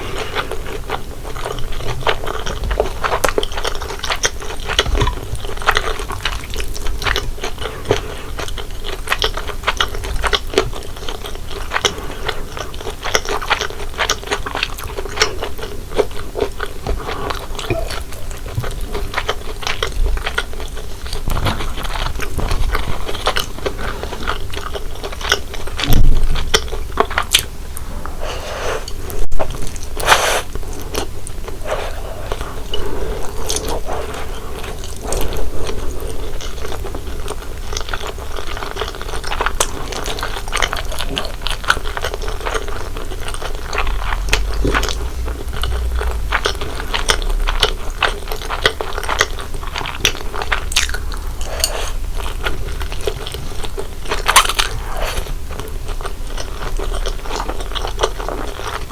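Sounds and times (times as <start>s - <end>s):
chewing with wet smacks: 0.0s - 27.8s, 28.8s - 58.9s.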